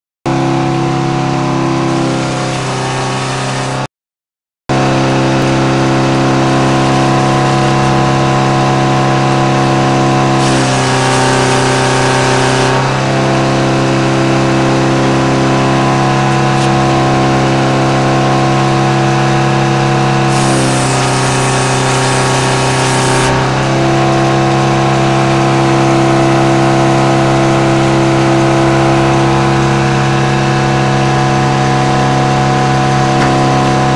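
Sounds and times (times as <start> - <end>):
sawmill humming: 0.3 - 3.9, 4.7 - 33.9
saw blade cutting log: 1.7 - 3.9, 5.2 - 32.2, 32.8 - 33.9.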